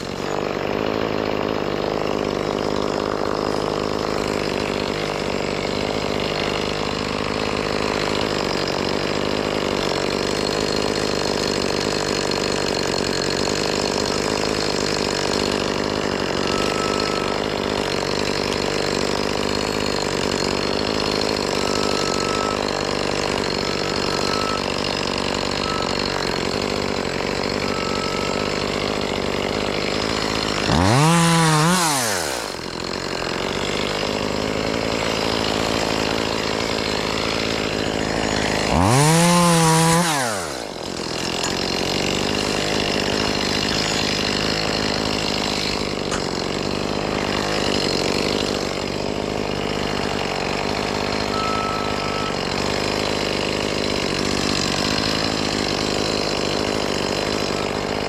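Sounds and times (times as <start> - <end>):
chainsaw running and revving: 0.0 - 58.0.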